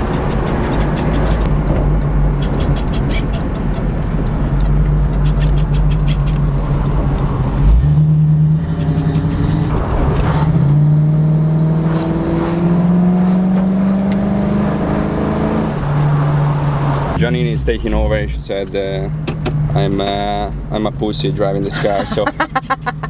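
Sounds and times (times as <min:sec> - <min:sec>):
car engine under load: 0:00.0 - 0:23.0.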